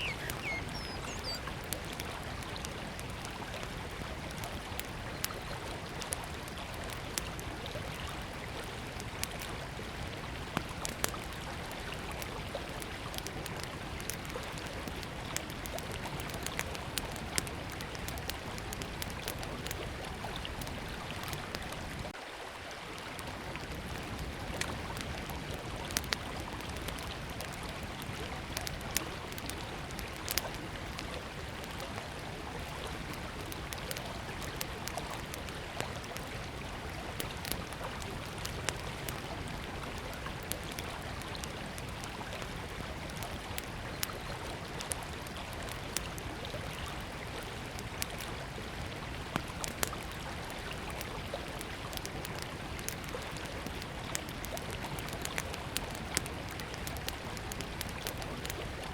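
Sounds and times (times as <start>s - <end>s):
campfire crackling and popping: 0.0s - 22.2s, 23.0s - 58.9s
river flowing: 0.0s - 58.9s.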